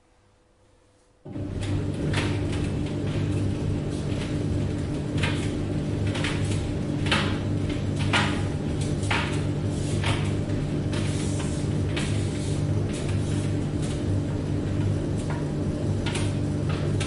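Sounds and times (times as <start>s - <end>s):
dryer drum swish: 1.2s - 17.0s
tumble dryer motor hum: 1.2s - 17.0s.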